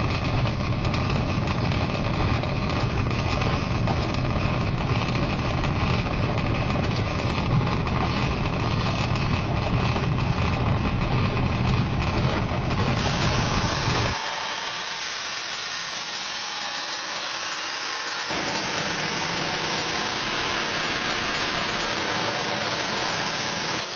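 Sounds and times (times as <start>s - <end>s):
power tool grinding steel: 0.0s - 23.9s.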